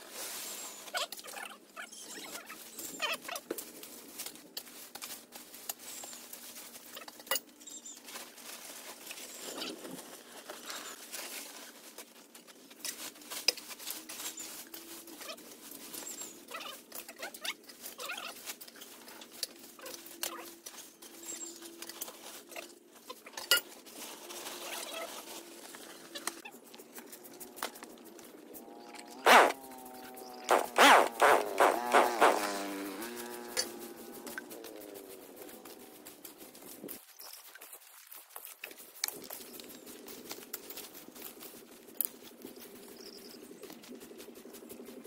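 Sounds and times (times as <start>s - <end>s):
light rustling and scratching: 0.0s - 45.0s.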